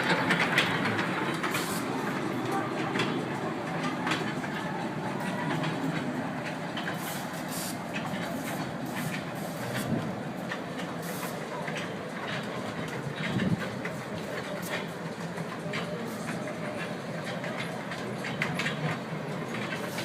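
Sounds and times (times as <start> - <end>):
background chatter: 0.0 - 20.0
ride train rumbling on track: 0.0 - 20.0.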